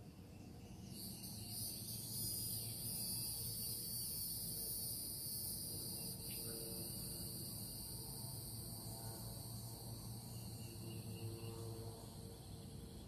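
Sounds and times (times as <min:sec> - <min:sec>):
insects trilling: 0:00.0 - 0:13.0
low background hum: 0:00.0 - 0:13.0.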